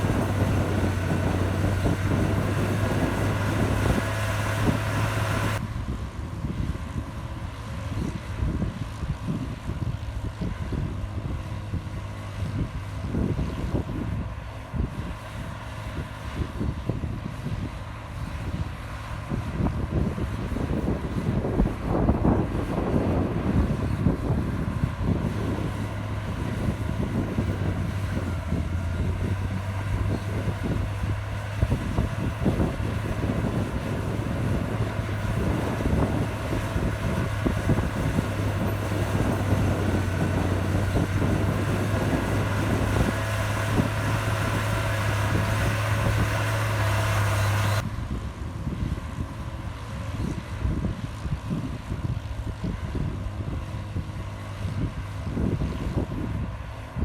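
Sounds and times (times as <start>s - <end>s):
heavy diesel machinery running: 0.0s - 57.0s
wind buffeting microphone: 0.0s - 57.0s.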